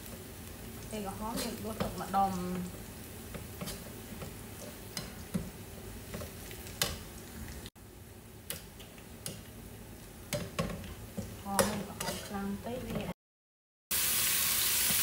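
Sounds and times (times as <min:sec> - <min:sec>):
oil sizzling in a frying pan: 0:00.0 - 0:13.1, 0:13.9 - 0:15.0.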